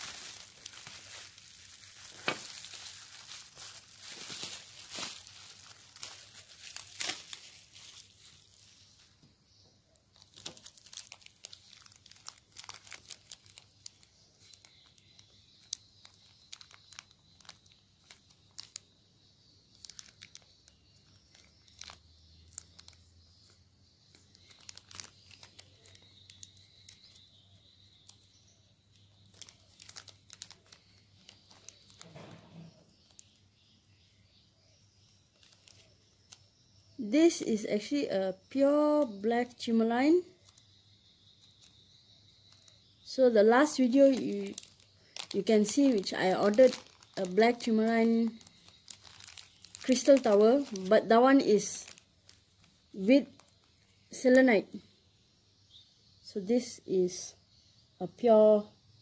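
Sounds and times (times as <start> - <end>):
bubble wrap and plastic crinkling: 0.0 - 9.2, 10.1 - 34.0, 34.9 - 36.5, 39.0 - 41.9, 42.5 - 54.5.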